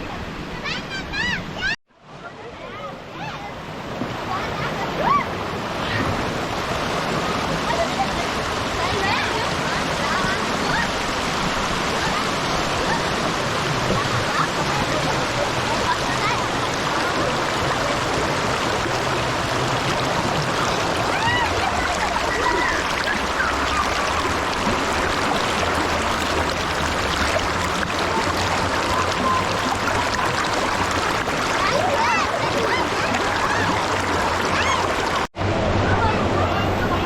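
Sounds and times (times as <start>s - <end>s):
stream water rushing and gurgling: 0.0s - 37.0s.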